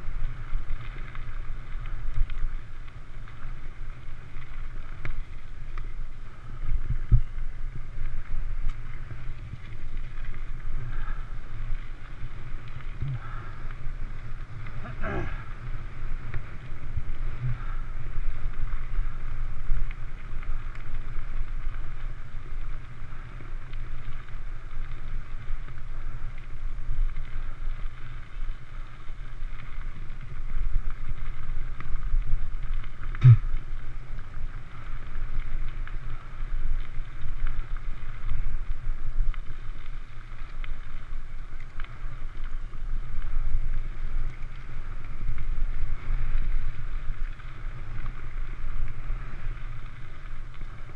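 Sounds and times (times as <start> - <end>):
bike tyres on gravel: 0.0 - 50.9
wind rumbling on microphone: 0.0 - 50.9.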